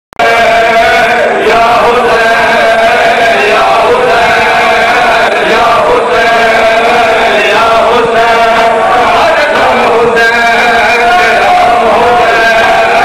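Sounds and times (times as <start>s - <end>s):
men chanting into microphones: 0.2s - 13.0s.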